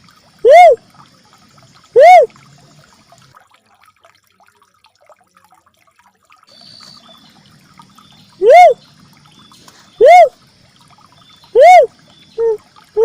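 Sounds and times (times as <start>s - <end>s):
faint water trickling: 0.0s - 13.0s.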